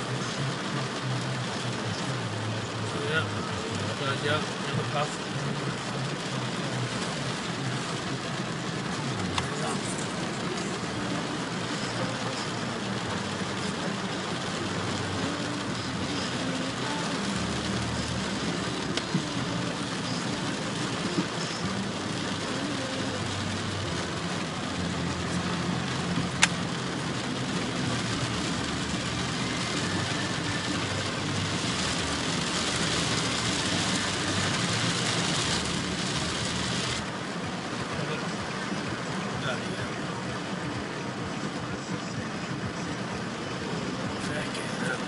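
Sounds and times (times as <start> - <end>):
car engine and tyre noise: 0.0 - 45.0
heavy rain hissing: 0.0 - 45.0.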